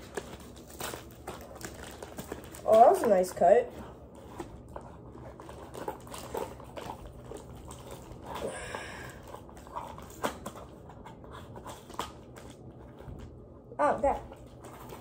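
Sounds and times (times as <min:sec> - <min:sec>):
scissors cutting packaging: 0:00.0 - 0:13.0
packaging rustling: 0:00.0 - 0:13.3.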